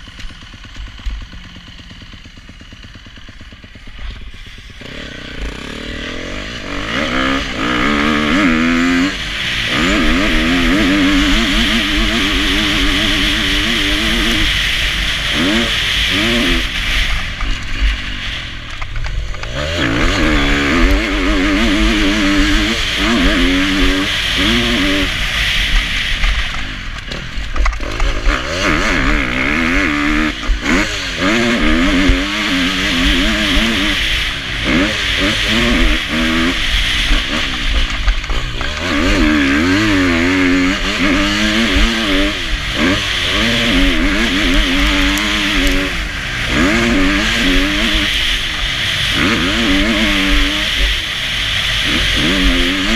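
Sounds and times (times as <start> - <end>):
motocross bike engine revving: 0.0 - 52.9
steady rush of noise: 0.0 - 52.9.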